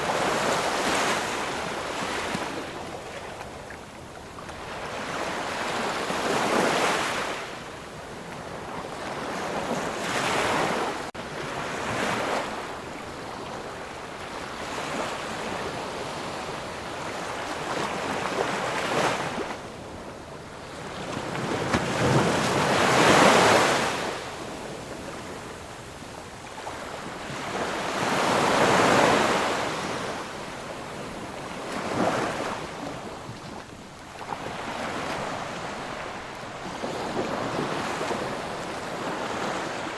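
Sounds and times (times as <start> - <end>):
sea waves breaking: 0.0 - 7.6, 8.2 - 39.9.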